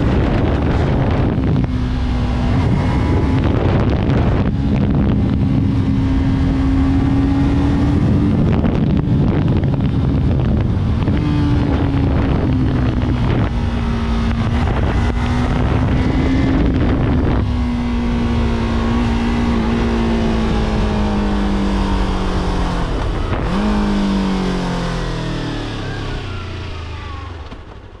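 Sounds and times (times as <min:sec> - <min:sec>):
wind on microphone: 0:00.0 - 0:26.9
motorcycle engine revving: 0:00.0 - 0:27.7.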